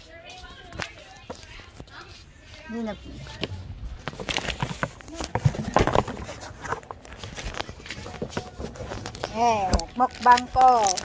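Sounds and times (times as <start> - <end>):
handling rustles: 0.0 - 11.0.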